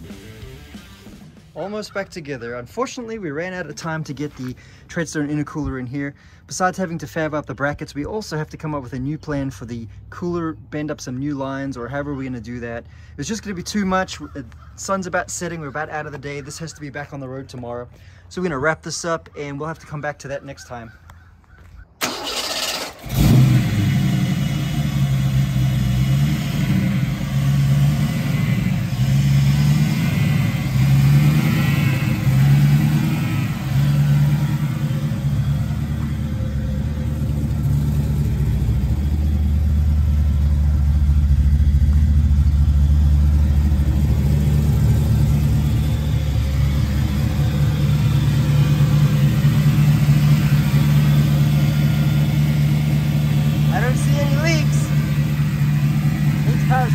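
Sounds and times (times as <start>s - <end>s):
car engine starting and idling: 0.0s - 17.6s, 22.0s - 56.9s.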